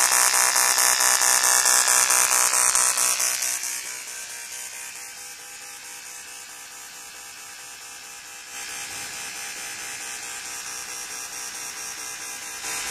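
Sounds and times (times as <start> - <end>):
welding machine electric buzz: 0.0 - 12.9.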